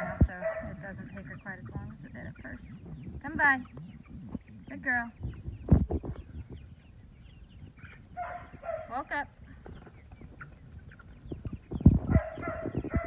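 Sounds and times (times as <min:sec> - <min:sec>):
young chickens cheeping: 0:00.0 - 0:13.0.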